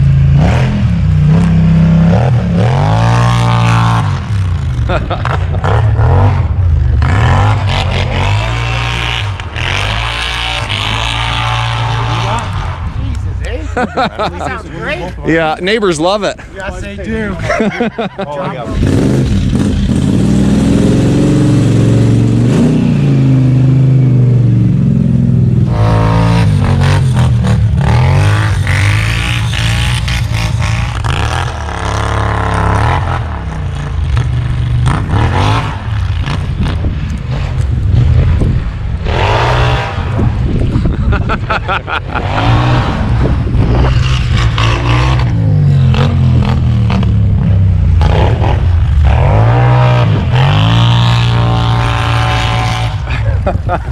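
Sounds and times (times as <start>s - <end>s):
atv engine revving: 0.0s - 16.4s, 17.0s - 53.9s.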